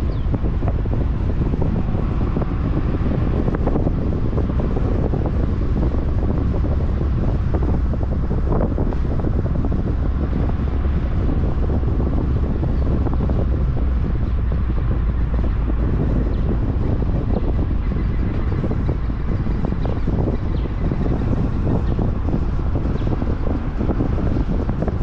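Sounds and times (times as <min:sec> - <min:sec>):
vehicle driving on road: 0:00.0 - 0:25.0
wind rumble on microphone: 0:00.0 - 0:25.0.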